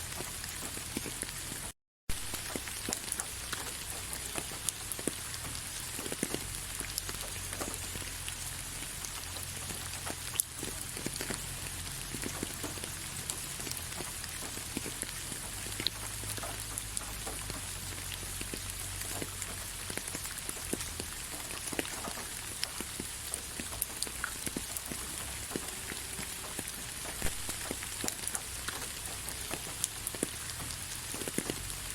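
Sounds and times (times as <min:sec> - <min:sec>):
gentle rain: 0:00.0 - 0:31.9
raindrops ticking on a surface: 0:00.0 - 0:31.9.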